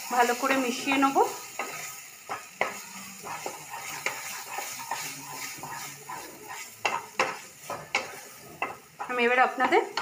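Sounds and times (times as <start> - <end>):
spatula scraping a pan: 0.1 - 10.0
spatula knocking on pan: 1.6 - 10.0.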